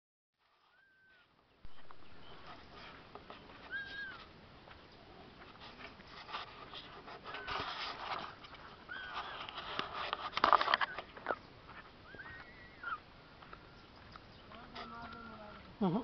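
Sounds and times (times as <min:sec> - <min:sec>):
scuffs and rustling on dry ground: 0:00.4 - 0:16.0.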